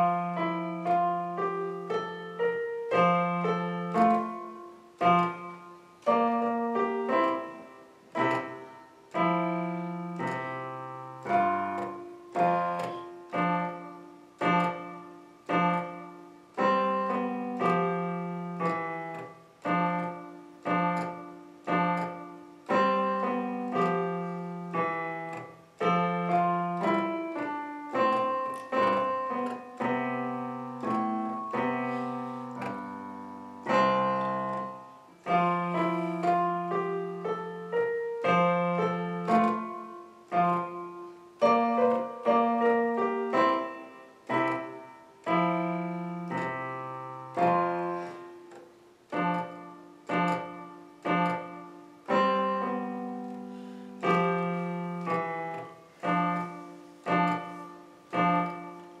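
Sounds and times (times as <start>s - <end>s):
digital piano melody over chords: 0.0s - 59.0s.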